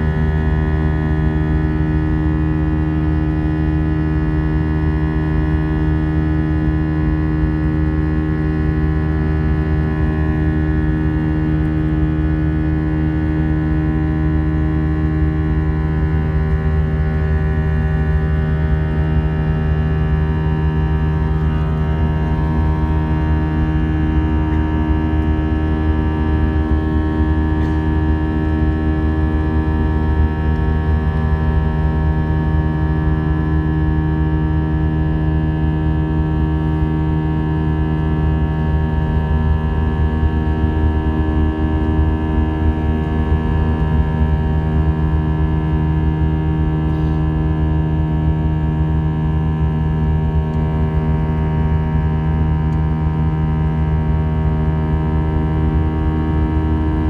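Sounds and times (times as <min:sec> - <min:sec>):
jet engines drone in cabin: 0:00.0 - 0:57.0.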